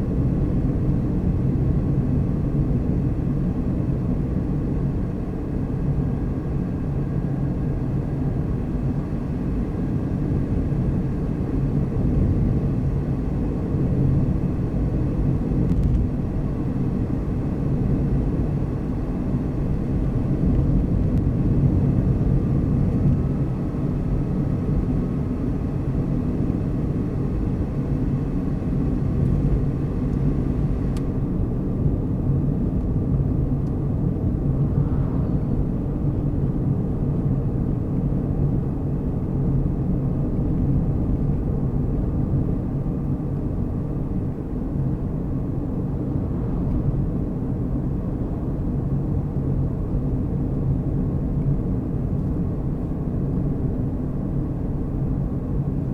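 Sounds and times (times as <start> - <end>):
vehicle engine and tyres rumbling: 0.0 - 55.9.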